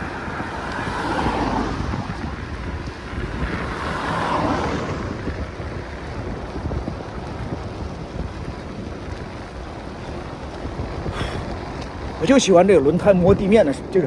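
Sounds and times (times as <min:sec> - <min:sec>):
bike tyres rolling on asphalt: 0:00.0 - 0:14.0
wind buffeting microphone: 0:00.0 - 0:14.0.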